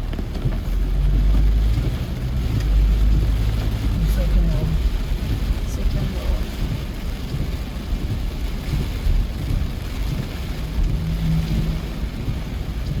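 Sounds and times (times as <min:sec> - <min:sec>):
rain hissing: 0:00.0 - 0:13.0
wind rumbling on microphone: 0:00.0 - 0:13.0.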